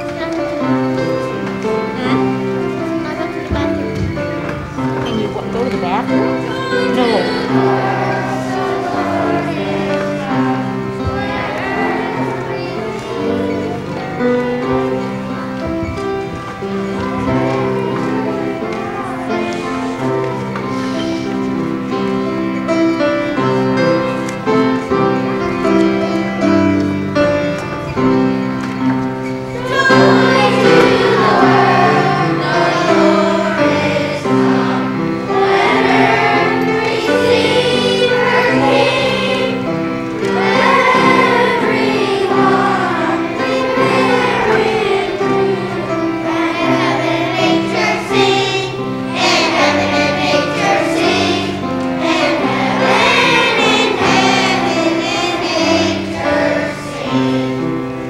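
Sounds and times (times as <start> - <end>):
children's choir singing: 0.0 - 58.0
instrumental accompaniment: 0.0 - 58.0.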